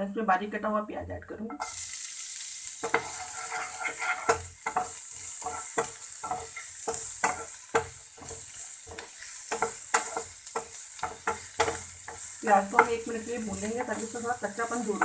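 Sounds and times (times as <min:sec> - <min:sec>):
onion sizzling in hot oil: 0:00.0 - 0:15.0
spatula scraping a pan: 0:01.6 - 0:15.0.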